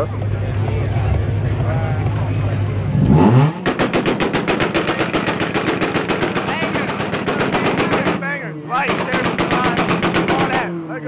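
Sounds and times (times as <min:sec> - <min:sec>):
car engine revving: 0:00.0 - 0:11.0
rapid exhaust pops: 0:00.1 - 0:10.7.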